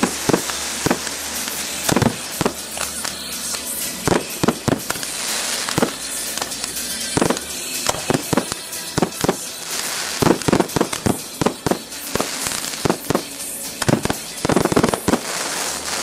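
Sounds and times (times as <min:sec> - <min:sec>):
fireworks bursting with sharp bangs: 0:00.0 - 0:16.0
fireworks crackling: 0:00.0 - 0:16.0.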